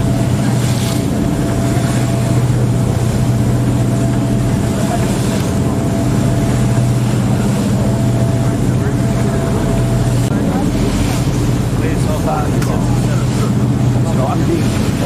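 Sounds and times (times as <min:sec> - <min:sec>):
ferry engines droning: 0:00.0 - 0:15.0
wind and water rushing: 0:00.0 - 0:15.0.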